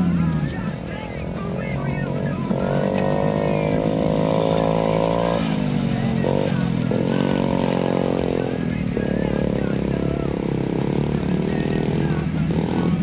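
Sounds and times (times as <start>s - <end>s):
small engine buzzing: 2.1s - 13.0s.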